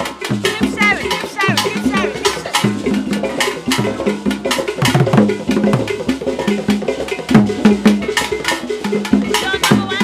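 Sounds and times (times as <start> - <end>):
drums with sharp clicking strikes: 0.0 - 10.0.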